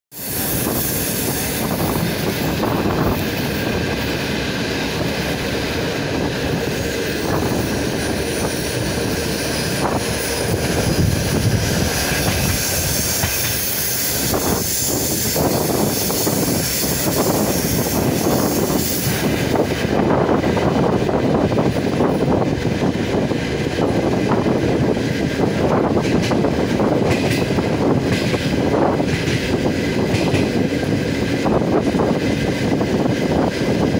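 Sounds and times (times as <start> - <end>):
train rumble inside carriage: 0.1 - 33.9.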